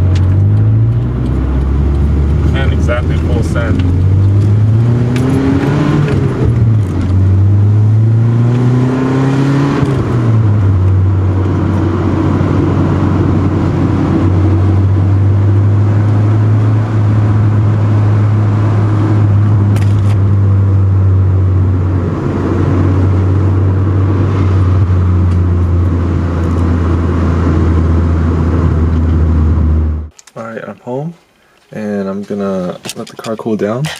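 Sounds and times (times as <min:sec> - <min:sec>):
car engine accelerating: 0:00.0 - 0:30.1.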